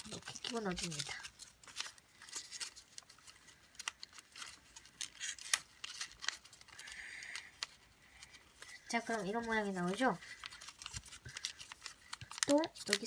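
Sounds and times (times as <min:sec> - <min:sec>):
paper crinkling: 0:00.0 - 0:13.0
small paper clicks: 0:00.0 - 0:13.0.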